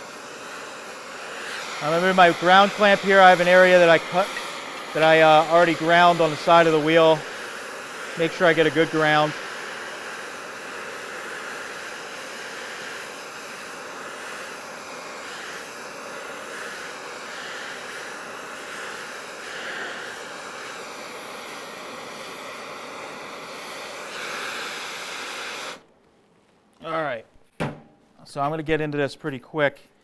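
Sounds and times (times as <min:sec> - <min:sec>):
gas torch hissing roar: 0:00.0 - 0:25.9.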